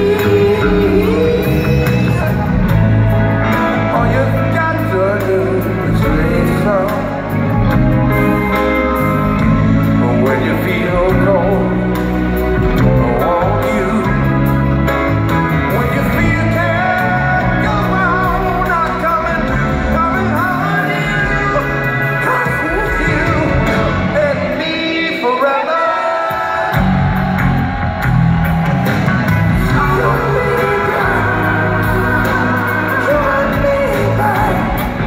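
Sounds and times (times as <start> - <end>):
electric guitar: 0.0 - 25.2, 25.9 - 35.0
person singing: 0.0 - 27.2, 29.5 - 35.0
drums: 0.0 - 35.0.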